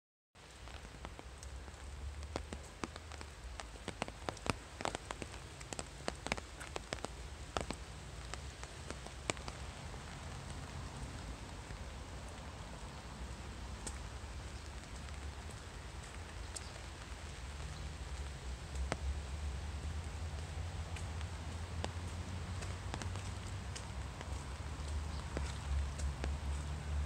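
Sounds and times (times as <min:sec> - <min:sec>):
raindrops ticking close by: 0:00.4 - 0:27.0
steady rain falling: 0:00.4 - 0:27.0.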